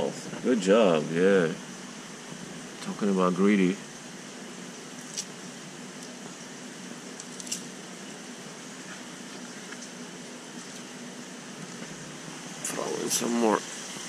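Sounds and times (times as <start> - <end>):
aquarium water hiss and hum: 0.0 - 14.0.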